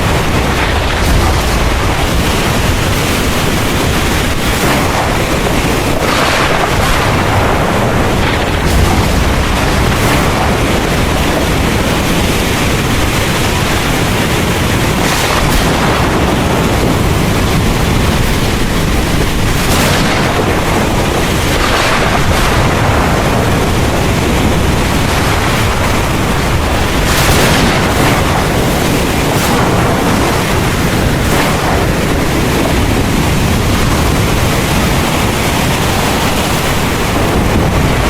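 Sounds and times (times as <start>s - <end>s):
heavy rain hissing: 0.0s - 38.0s
thunder rumble: 0.0s - 38.0s.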